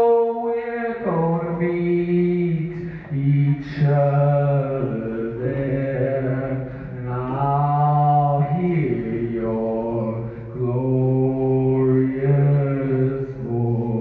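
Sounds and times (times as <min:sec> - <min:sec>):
man singing a cappella: 0:00.0 - 0:14.0.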